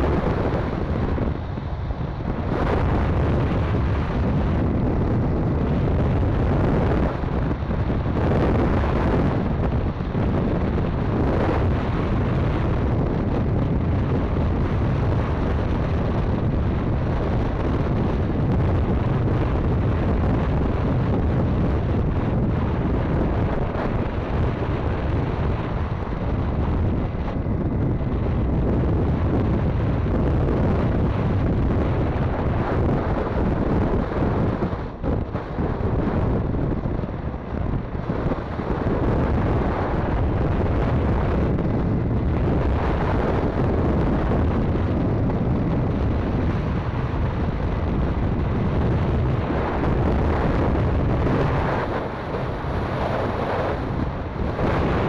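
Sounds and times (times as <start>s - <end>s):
motorcycle low rumble: 0.0s - 55.0s
wind buffeting microphone: 0.0s - 55.0s.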